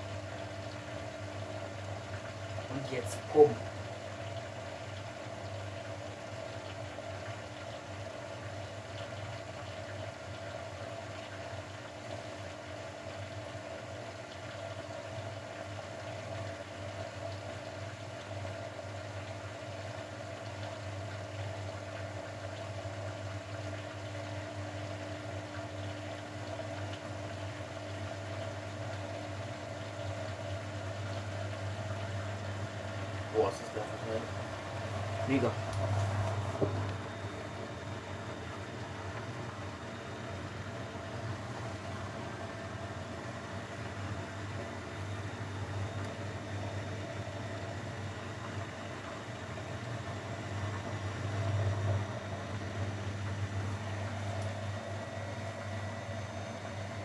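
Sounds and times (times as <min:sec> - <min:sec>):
washing machine drain pump humming: 0:00.0 - 0:57.0
water gurgling: 0:00.0 - 0:57.0.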